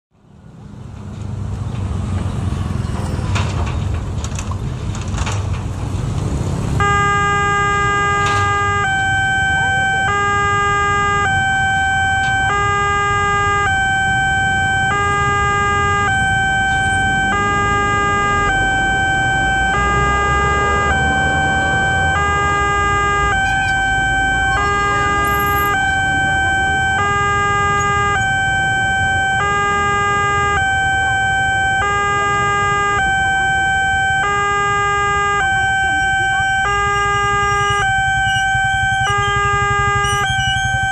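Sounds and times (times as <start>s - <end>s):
street traffic rumble: 0.1s - 40.9s
level crossing two-tone alarm: 6.8s - 40.9s.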